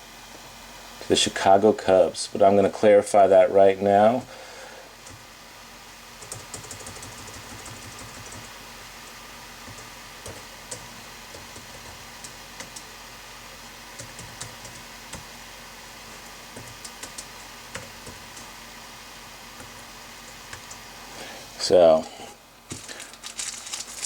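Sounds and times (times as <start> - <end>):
faint background hum: 0.0 - 24.0.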